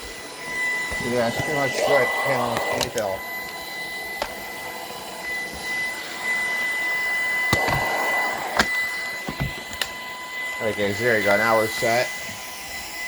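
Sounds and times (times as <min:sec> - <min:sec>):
robot vacuum motor whine: 0:00.0 - 0:13.0.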